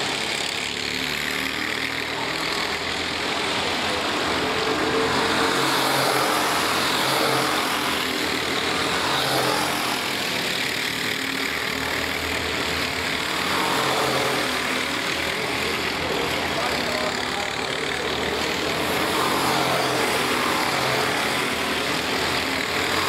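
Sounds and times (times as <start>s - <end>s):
kart engines racing past: 0.0s - 23.0s.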